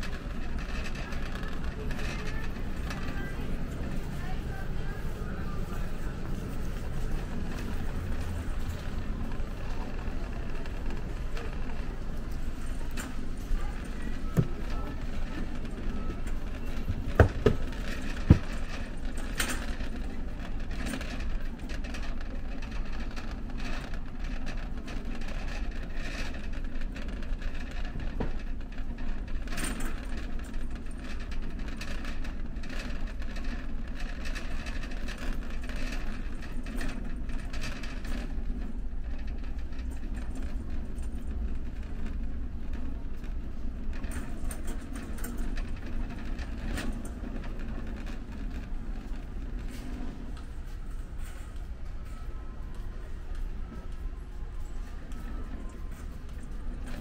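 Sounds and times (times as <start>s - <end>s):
clatter of shoppers and goods: 0.0s - 57.0s.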